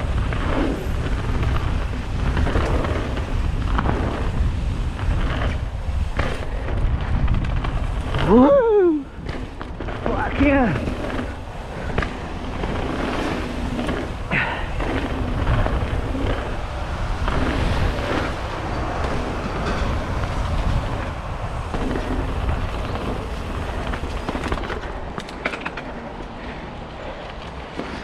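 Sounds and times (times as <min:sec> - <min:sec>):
bike tyres rumbling over gravel: 0:00.0 - 0:28.0.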